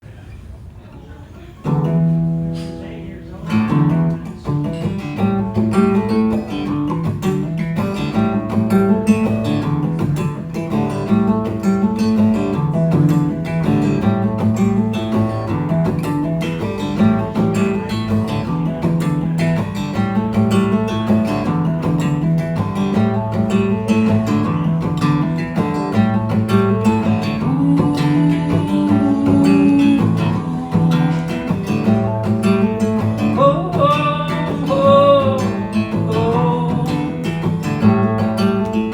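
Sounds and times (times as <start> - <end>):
acoustic guitar strumming: 1.6 - 38.9.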